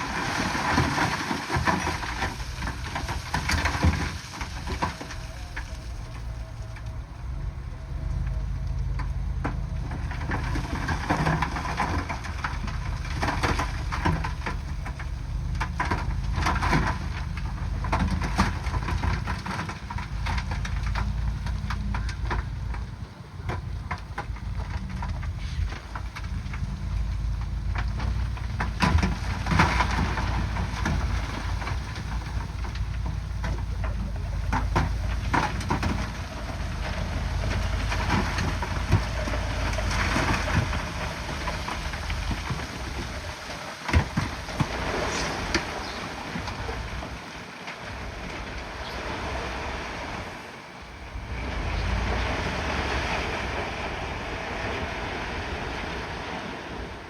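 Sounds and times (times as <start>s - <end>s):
heavy diesel engine rumble: 0.0s - 57.0s
rock crunching and clanking: 0.0s - 57.0s.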